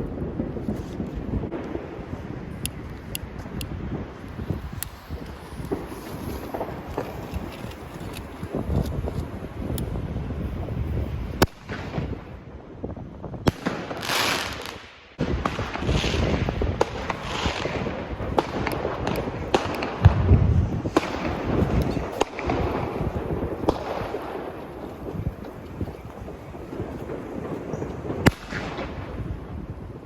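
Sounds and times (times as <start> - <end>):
fireworks bangs and pops: 0.0 - 30.0
wind on microphone: 0.0 - 30.0
fireworks hissing whooshes: 0.6 - 12.2, 13.5 - 29.7.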